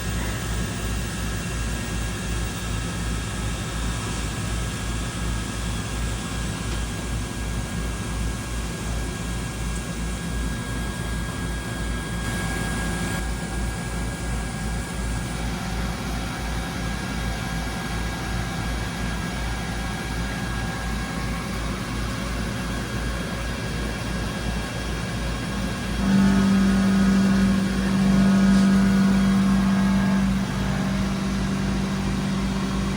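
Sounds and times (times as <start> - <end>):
low steady machine whine: 0.0 - 32.9
machining center humming: 0.0 - 32.9.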